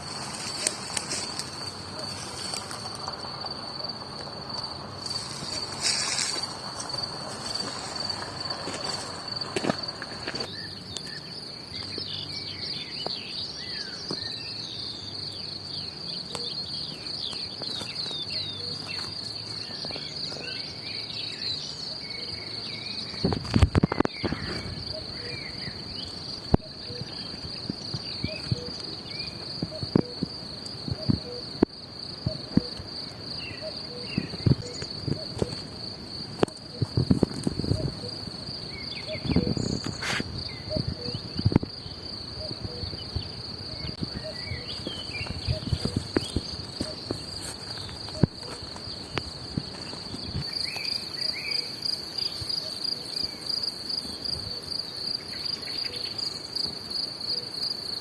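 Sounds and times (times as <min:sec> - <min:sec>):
birds chirping: 0:00.0 - 0:54.3
crickets trilling: 0:00.0 - 0:58.0.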